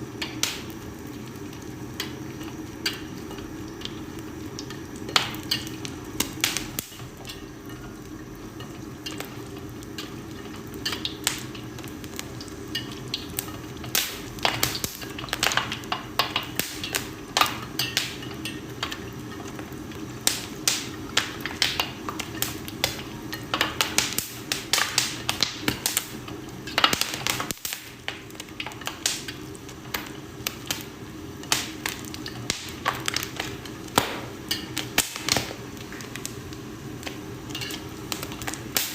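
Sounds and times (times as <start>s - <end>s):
popcorn kernels popping: 0.0s - 38.9s.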